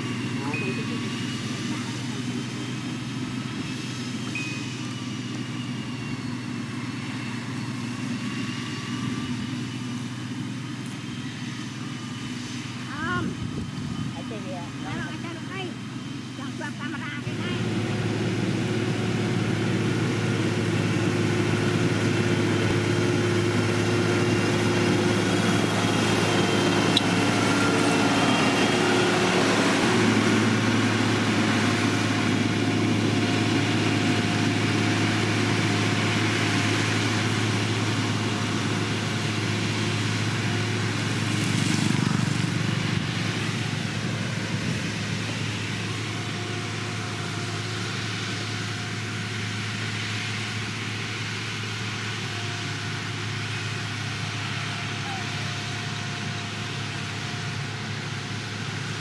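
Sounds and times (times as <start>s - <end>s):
construction machinery diesel engine hum: 0.0s - 59.0s.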